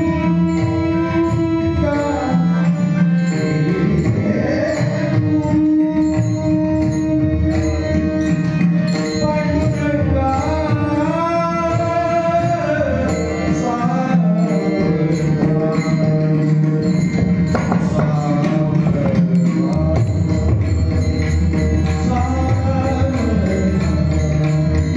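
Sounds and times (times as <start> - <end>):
jingling percussion: 0.0 - 24.9
man singing devotional song: 0.0 - 24.9
mridang drum: 0.0 - 24.9.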